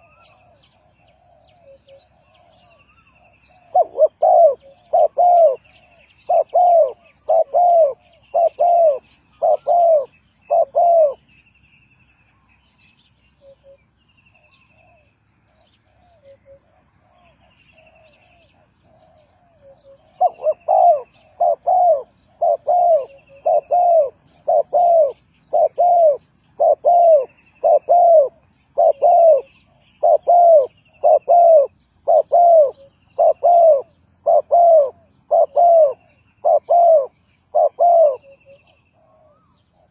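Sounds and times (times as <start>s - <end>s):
dove cooing: 0.0s - 11.3s, 13.4s - 39.9s
small bird chirping: 0.0s - 39.9s.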